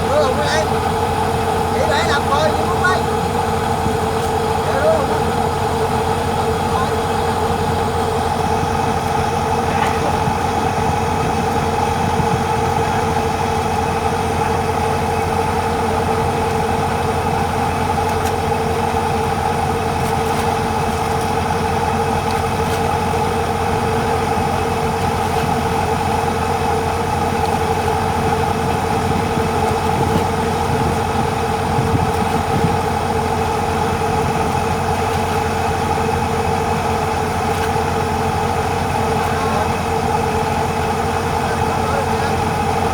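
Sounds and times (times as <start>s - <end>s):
engine running steadily: 0.0s - 42.9s.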